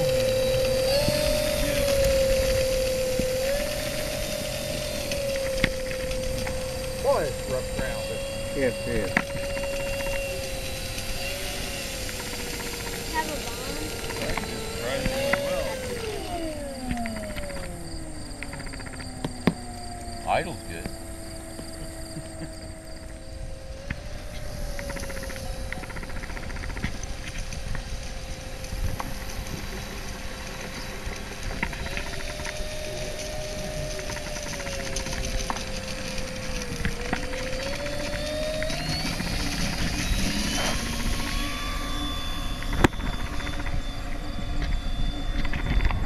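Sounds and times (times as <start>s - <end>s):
model plane motor whining: 0.0s - 46.0s.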